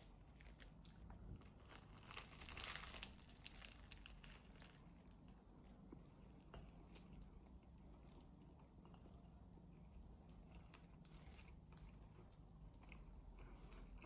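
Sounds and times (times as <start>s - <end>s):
small clicks and crunches: 0.0s - 9.2s, 10.5s - 14.0s
low room hum: 0.0s - 14.0s.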